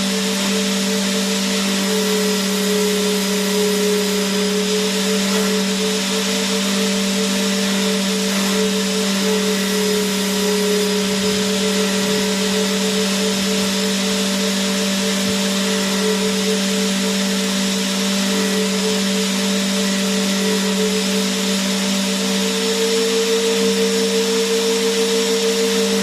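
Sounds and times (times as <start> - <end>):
vacuum cleaner motor running: 0.0 - 26.0.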